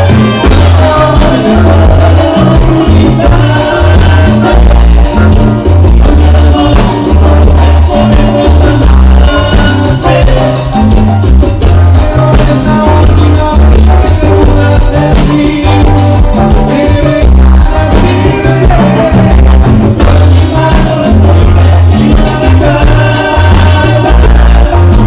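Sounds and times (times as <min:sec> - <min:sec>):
heavy pulsing bass line: 0:00.0 - 0:25.0
latin dance band playing: 0:00.0 - 0:25.0.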